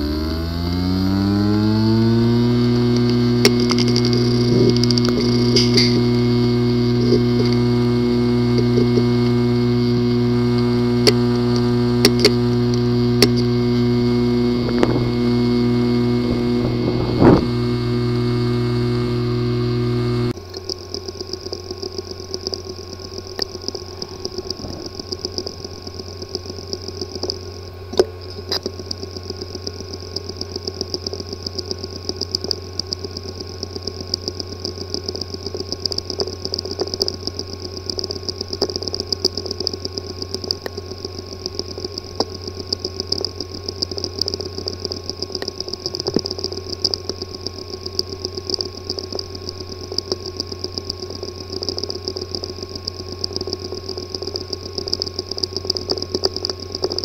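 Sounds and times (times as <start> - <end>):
hard disk drive humming: 0.0 - 57.0
hard drive ticks and clicks: 0.0 - 57.0.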